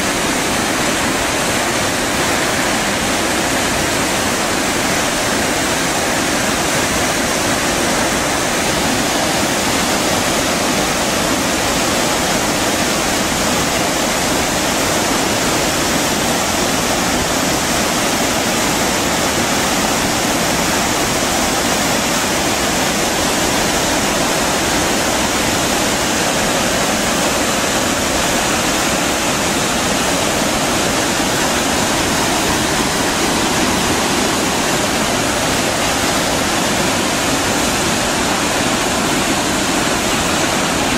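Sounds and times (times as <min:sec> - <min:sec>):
waterfall pouring onto rocks: 0:00.0 - 0:40.9.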